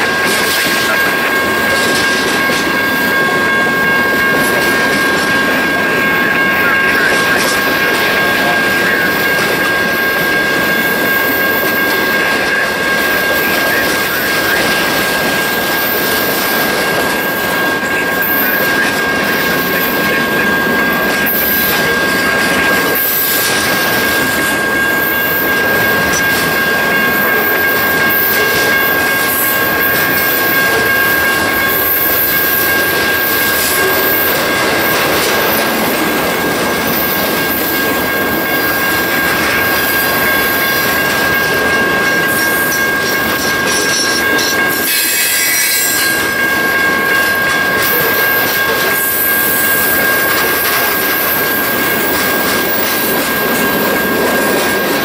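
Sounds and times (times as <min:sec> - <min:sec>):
high-pitched whine: 0:00.0 - 0:55.0
train wheels rushing on rails: 0:00.0 - 0:55.0.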